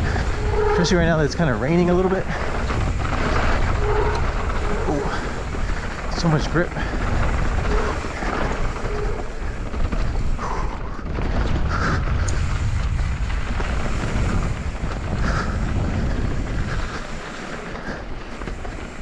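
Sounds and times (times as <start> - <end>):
bike tyres on dirt trail: 0.0 - 19.0
wind on microphone: 0.0 - 19.0.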